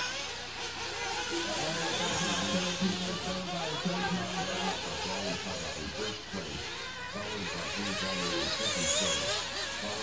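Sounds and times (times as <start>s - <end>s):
rc car engines whining: 0.0s - 10.0s.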